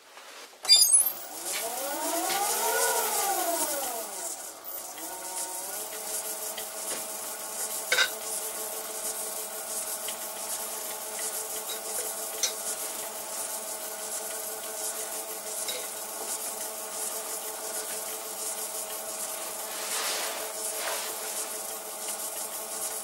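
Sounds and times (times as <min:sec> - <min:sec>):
reamer scraping hiss: 0:01.0 - 0:23.0.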